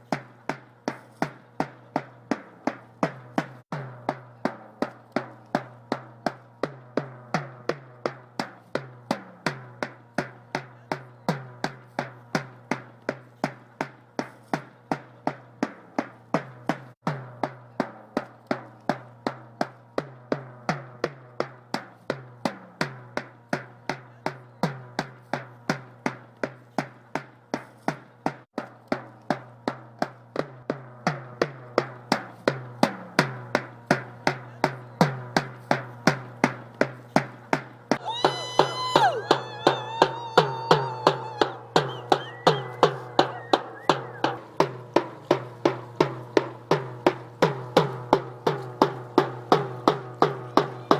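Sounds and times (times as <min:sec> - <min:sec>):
drum beaten in steady rhythm: 0:00.0 - 0:50.9.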